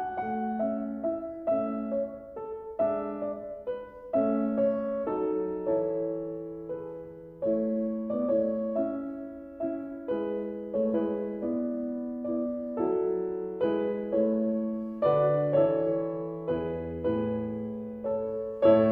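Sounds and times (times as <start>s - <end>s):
gentle piano melody: 0.0s - 18.9s.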